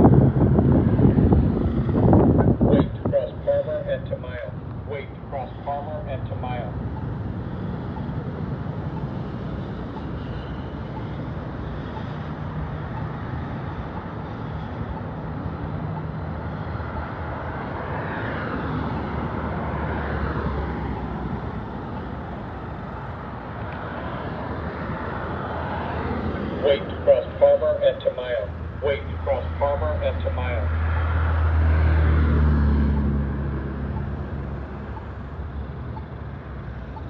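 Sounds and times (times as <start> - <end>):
loud vehicle passing: 0.0 - 37.0
road traffic passing: 0.0 - 37.0.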